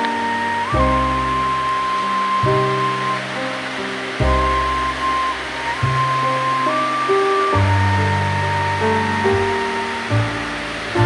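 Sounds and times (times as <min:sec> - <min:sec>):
music of held notes: 0:00.0 - 0:11.0
stream water flowing: 0:00.0 - 0:11.0.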